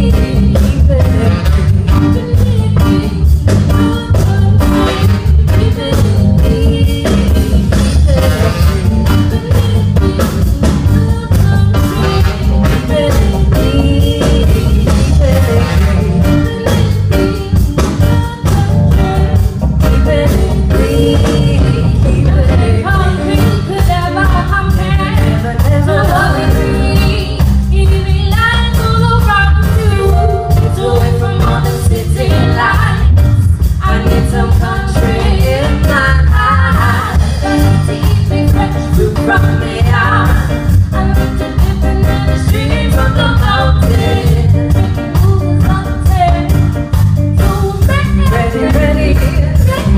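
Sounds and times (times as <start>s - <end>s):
live band playing: 0.0s - 49.9s.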